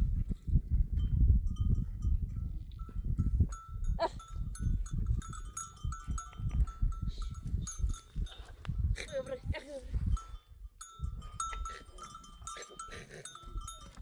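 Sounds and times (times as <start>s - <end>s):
animal bells tinkling: 1.0s - 14.0s.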